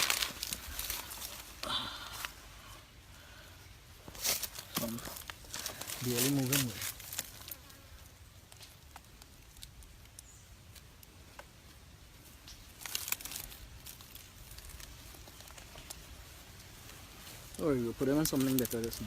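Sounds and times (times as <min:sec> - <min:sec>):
faint crackles and clicks: 0:00.0 - 0:02.4, 0:04.1 - 0:19.0
crackling and rustling: 0:00.0 - 0:02.7, 0:04.0 - 0:19.0.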